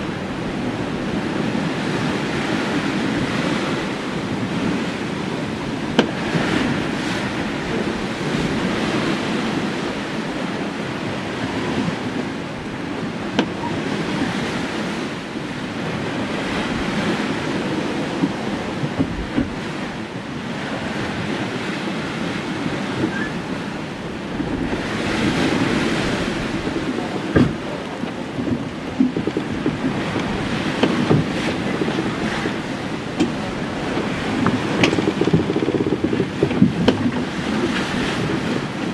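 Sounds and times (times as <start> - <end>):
sea water rushing against hull: 0.0 - 38.9
wind buffeting microphone: 0.0 - 38.9.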